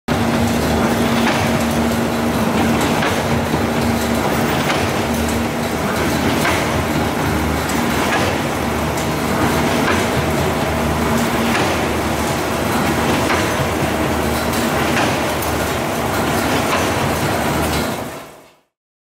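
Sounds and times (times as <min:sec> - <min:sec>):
weaving machine rumble and hum: 0:00.1 - 0:18.5.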